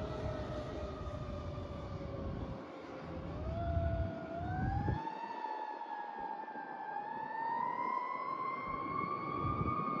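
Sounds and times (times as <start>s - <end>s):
fire truck siren wailing: 0.0s - 10.0s.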